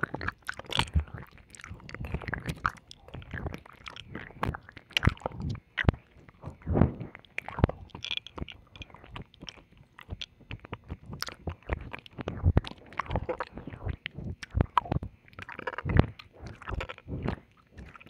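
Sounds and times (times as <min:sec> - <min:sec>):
wet mouth licking and kissing: 0:00.0 - 0:18.0.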